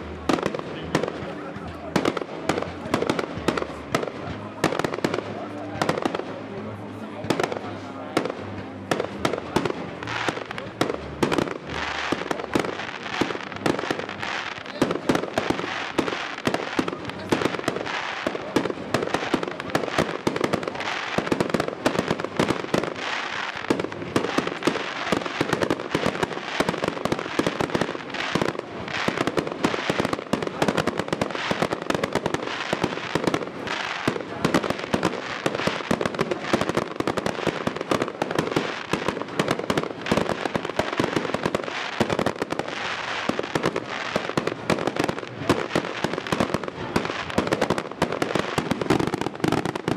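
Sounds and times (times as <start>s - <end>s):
aerial fireworks bursting: 0.0s - 49.9s.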